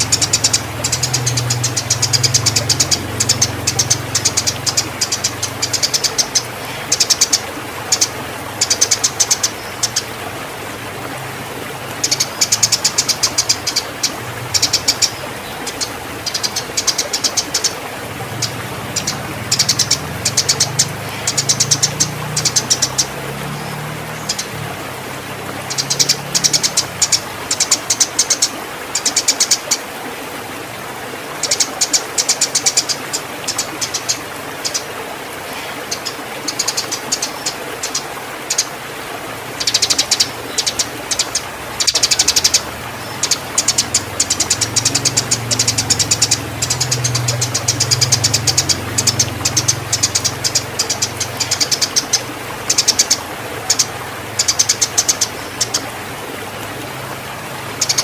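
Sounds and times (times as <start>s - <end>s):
sparrows chirping: 0.0s - 10.1s, 12.0s - 24.6s, 25.6s - 29.8s, 31.4s - 34.9s, 35.5s - 38.7s, 39.6s - 55.9s, 57.7s - 58.0s.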